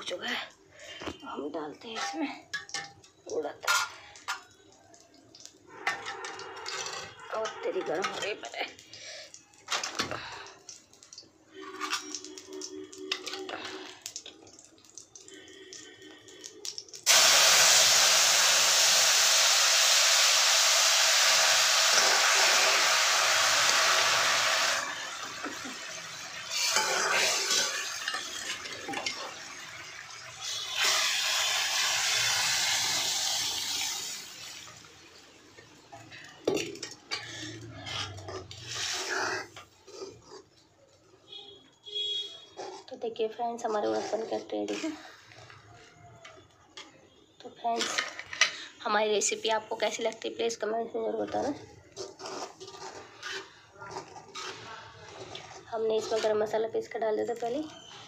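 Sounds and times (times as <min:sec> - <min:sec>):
hot oil sizzling: 0:01.8 - 0:40.2, 0:49.2 - 0:58.0.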